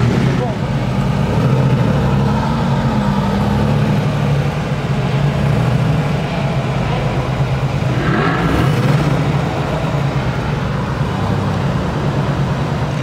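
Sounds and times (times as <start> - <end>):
car engines droning in traffic: 0.0 - 13.0
engine revving: 0.0 - 13.0.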